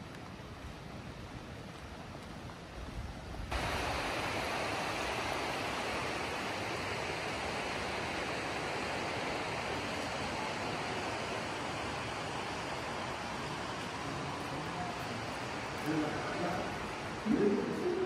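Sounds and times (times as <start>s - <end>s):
river rushing over rocks: 3.5s - 18.0s.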